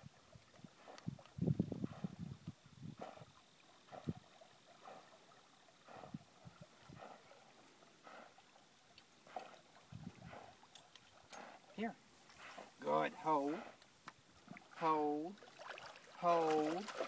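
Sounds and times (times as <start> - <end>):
dog swimming in water: 0.0 - 17.0.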